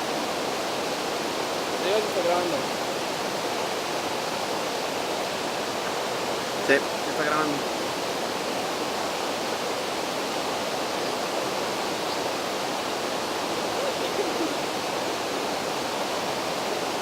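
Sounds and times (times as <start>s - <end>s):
rushing stream water: 0.0s - 17.0s.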